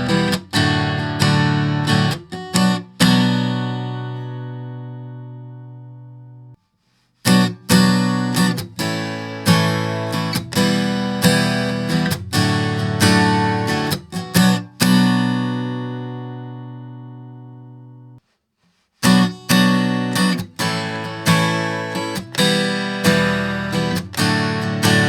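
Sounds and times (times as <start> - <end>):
acoustic guitar chords strummed: 0.0 - 6.5, 7.3 - 18.2, 19.0 - 25.0.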